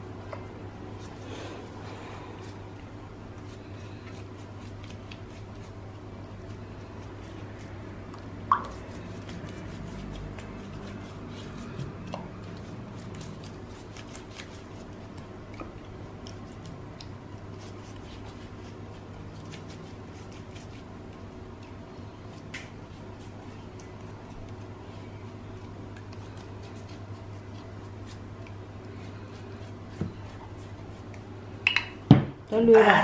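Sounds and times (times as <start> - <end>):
steady low hum: 0.0 - 33.0
pastry brush dabbing: 1.0 - 31.4.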